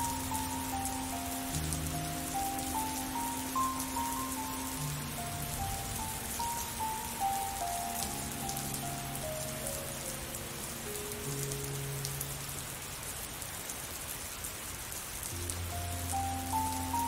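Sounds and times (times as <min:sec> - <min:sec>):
soft music of slow held notes: 0:00.0 - 0:13.3, 0:15.2 - 0:17.0
steady rain pattering: 0:00.0 - 0:17.0.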